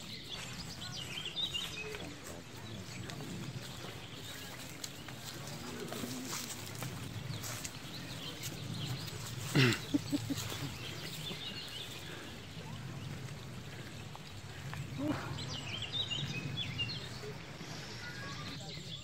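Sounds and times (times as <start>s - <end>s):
birds chirping: 0.0s - 19.0s
footsteps on dirt path: 0.0s - 19.0s.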